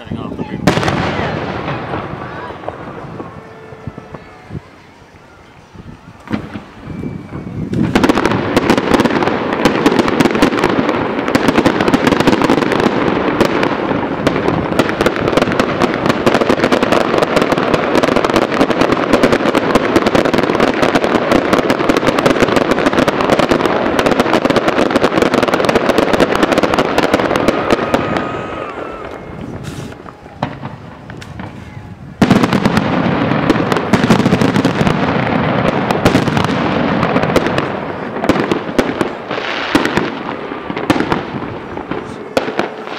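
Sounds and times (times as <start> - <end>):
fireworks crackling: 0.0 - 42.9.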